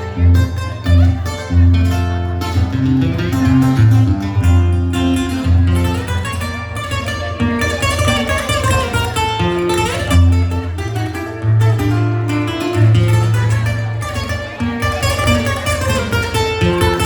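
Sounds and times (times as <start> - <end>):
steady bass line: 0.0 - 8.8, 9.4 - 17.0
plucked strings: 0.0 - 17.0.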